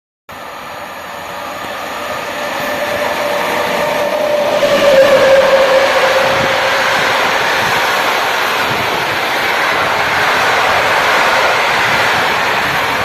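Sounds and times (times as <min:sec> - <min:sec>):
train approaching: 0:00.3 - 0:13.0
steady falling tone: 0:01.0 - 0:11.7.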